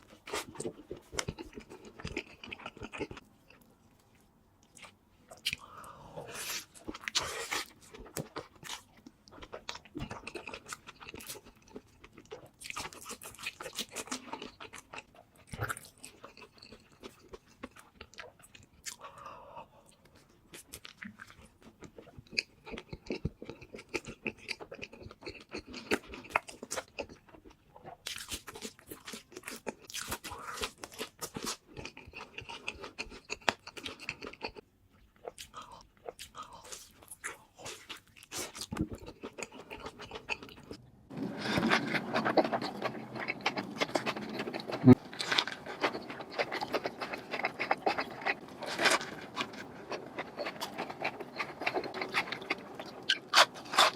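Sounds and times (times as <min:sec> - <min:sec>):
person chewing a burger: 0:00.0 - 0:53.9.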